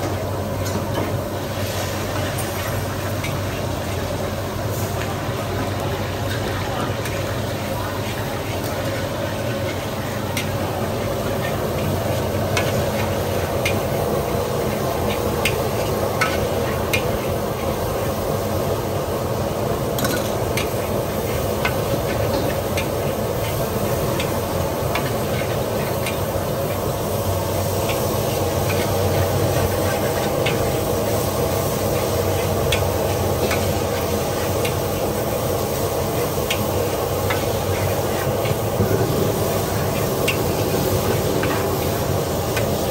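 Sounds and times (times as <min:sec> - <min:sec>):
noodles sizzling: 0:00.0 - 0:42.9.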